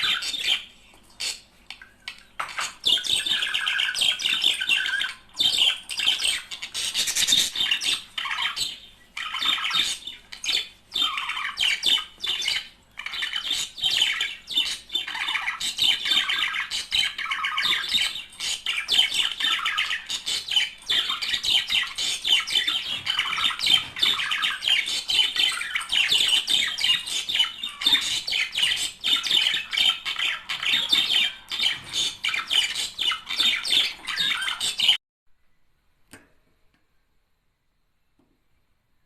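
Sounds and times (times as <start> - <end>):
budgerigars chattering and warbling: 0.0 - 1.4, 2.1 - 35.0.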